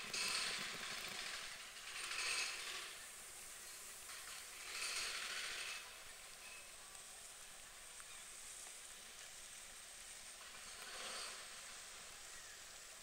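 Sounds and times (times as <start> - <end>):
faint outdoor background hiss: 0.0 - 13.0.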